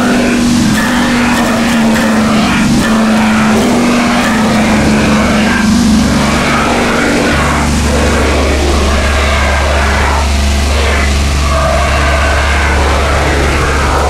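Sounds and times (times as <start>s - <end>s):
deep drone: 0.0s - 14.0s
harsh distorted noise music: 0.0s - 14.0s
steady low tone: 0.0s - 14.0s.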